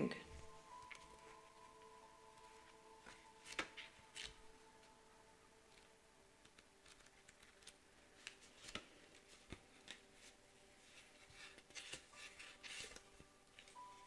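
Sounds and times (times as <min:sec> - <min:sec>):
pages being leafed through: 0:00.3 - 0:05.0, 0:05.7 - 0:14.0.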